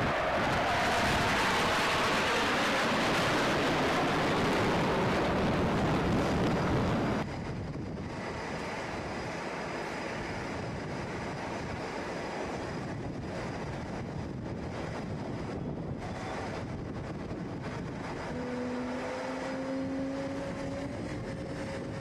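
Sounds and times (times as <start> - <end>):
jet aircraft passing: 0.0 - 22.0
wind noise on microphone: 0.0 - 22.0.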